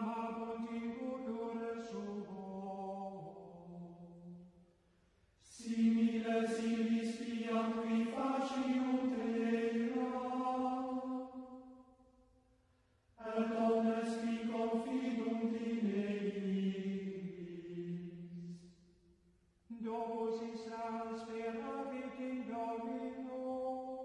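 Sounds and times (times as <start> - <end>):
plainchant singing: 0.0 - 4.6, 5.4 - 11.8, 13.2 - 18.9, 19.7 - 24.0.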